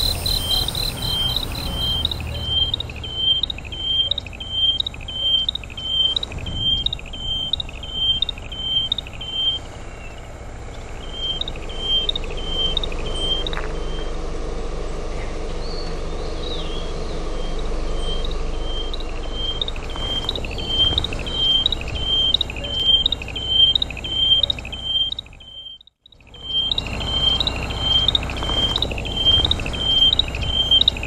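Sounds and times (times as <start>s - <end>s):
bird calling: 0.0s - 14.2s, 15.2s - 31.0s
low background rumble: 0.0s - 31.0s.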